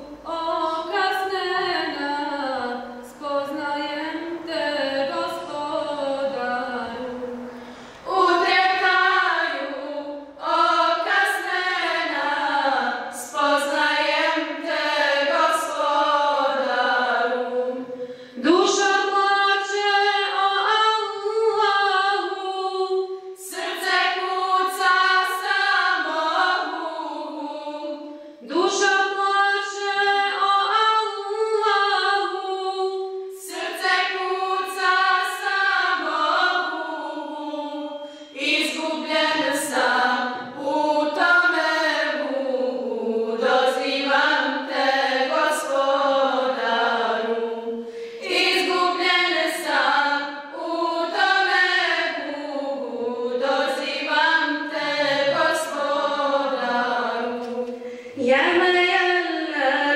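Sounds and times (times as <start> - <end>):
choir singing devotional song: 0.0 - 59.9.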